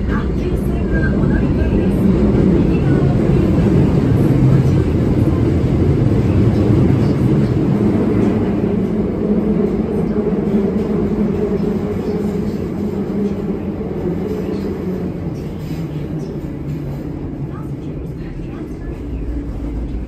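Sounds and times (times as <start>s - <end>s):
subway train rumbling in tunnel: 0.0s - 20.0s.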